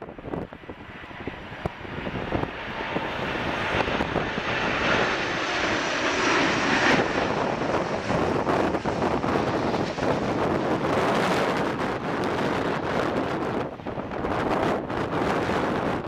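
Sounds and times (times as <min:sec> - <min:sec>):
jet engines on approach: 0:00.0 - 0:16.0.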